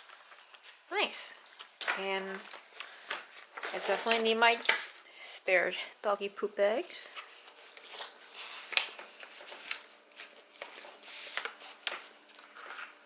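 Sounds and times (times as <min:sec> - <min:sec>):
plastic bags rustling and crinkling: 0:00.0 - 0:05.0, 0:06.8 - 0:13.0.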